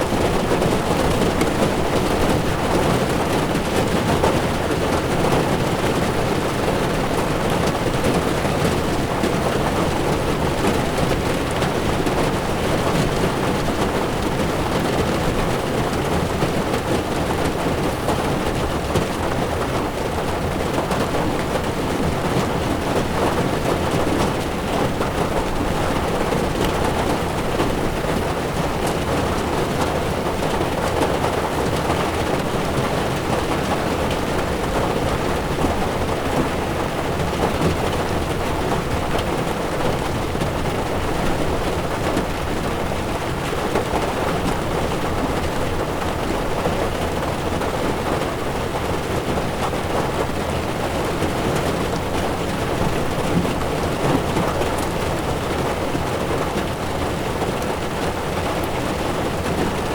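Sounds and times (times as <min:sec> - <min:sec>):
heavy rain on car windshield: 0:00.0 - 0:59.9.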